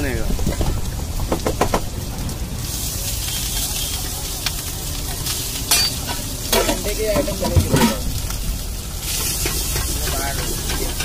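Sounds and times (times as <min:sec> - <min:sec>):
egg sizzling in oil: 0:01.8 - 0:11.0.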